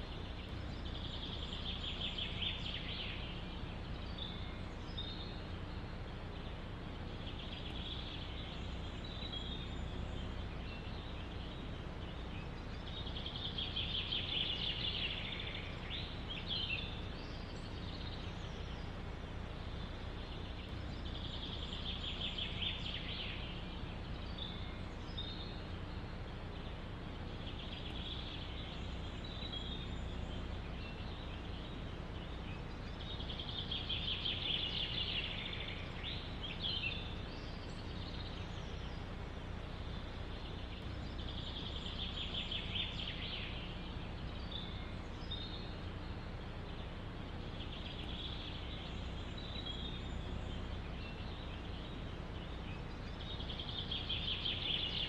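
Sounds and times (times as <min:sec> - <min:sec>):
bird chirps: 0:00.0 - 0:55.0
forest ambience rumble: 0:00.0 - 0:55.0
songbird trilling: 0:00.0 - 0:55.0.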